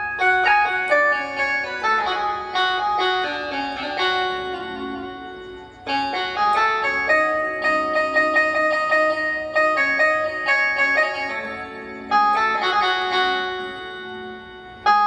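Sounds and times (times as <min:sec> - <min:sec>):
synthesizer plucked-string melody: 0:00.0 - 0:15.0.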